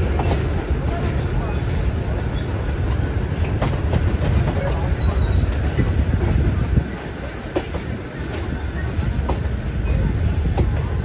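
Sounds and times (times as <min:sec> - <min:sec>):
train rumbling on rails: 0:00.0 - 0:11.0
wheels clacking over rail joints: 0:00.0 - 0:11.0.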